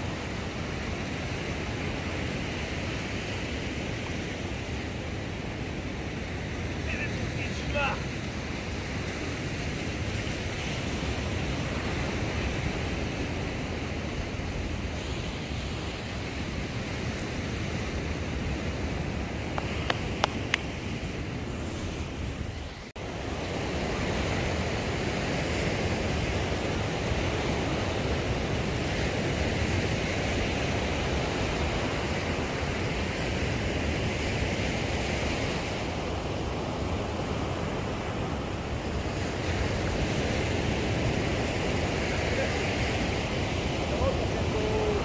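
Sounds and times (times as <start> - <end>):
waves washing up a beach: 0.0 - 45.0.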